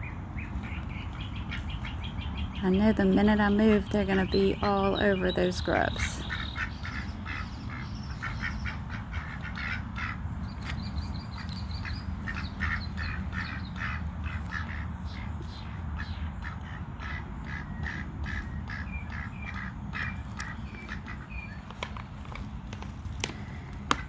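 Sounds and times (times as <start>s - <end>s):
ducks quacking: 0.4s - 10.4s, 11.3s - 21.7s.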